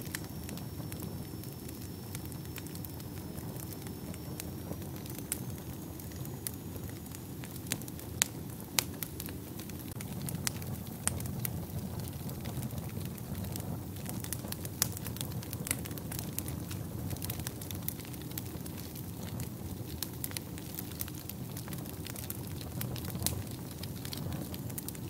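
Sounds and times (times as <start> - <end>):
fire burning with crackles: 0.0 - 25.0.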